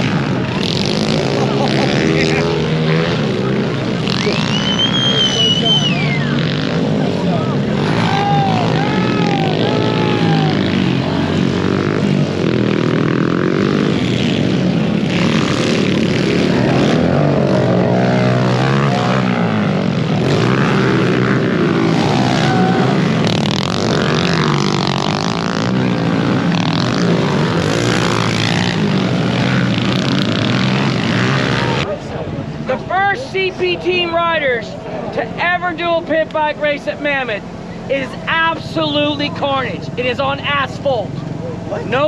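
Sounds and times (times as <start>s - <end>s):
pit bike engines revving: 0.0s - 42.0s.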